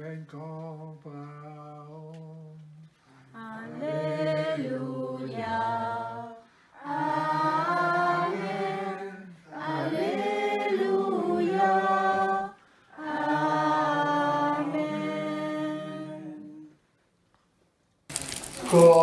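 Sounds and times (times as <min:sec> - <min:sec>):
person singing chant in low voice: 0:00.0 - 0:16.7.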